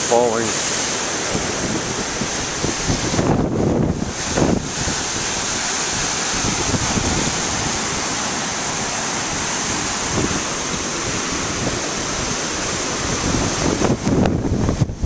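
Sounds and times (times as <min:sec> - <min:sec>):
surf breaking over rocks: 0:00.0 - 0:15.0
wind buffeting microphone: 0:00.0 - 0:15.0.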